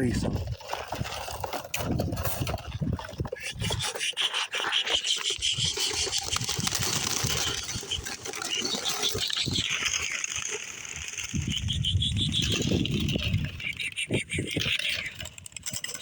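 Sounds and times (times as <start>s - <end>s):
pigeon wings clapping and flapping: 0.3s - 16.0s.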